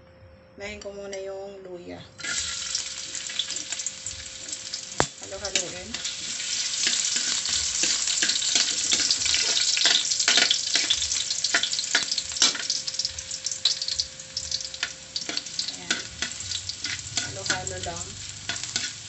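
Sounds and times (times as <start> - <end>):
metal spatula scraping a wok: 2.2 - 4.7, 5.4 - 14.0, 14.6 - 19.0
ginger sizzling in oil: 2.2 - 19.0.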